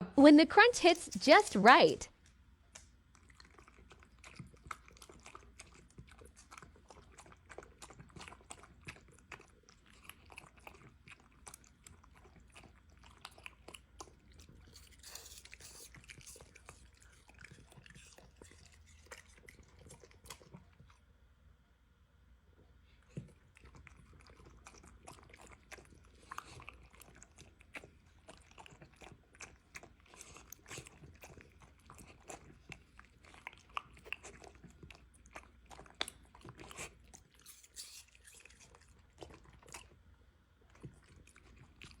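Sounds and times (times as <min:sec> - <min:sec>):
dog crunching apple: 0:02.7 - 0:21.1, 0:23.1 - 0:40.0.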